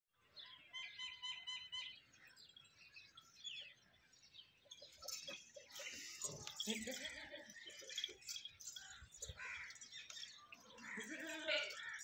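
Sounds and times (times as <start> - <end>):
small birds chirping faintly: 0.1 - 12.0.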